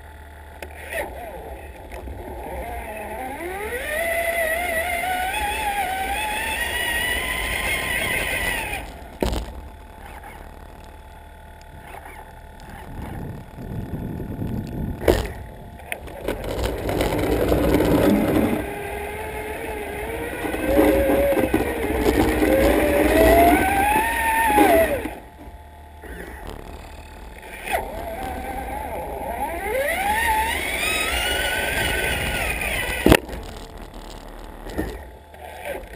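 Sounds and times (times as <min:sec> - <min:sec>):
rc truck electric motor whining: 0:00.0 - 0:10.6, 0:11.4 - 0:35.9.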